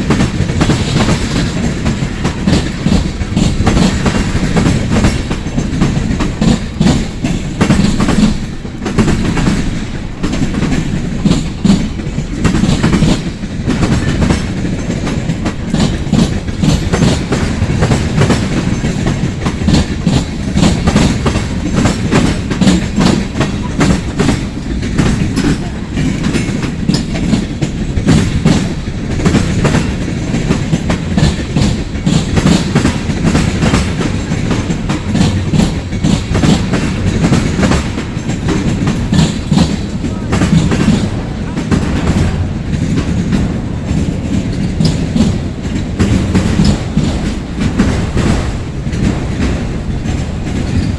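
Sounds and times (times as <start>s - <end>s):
train wheels clattering on rails: 0.0s - 50.9s.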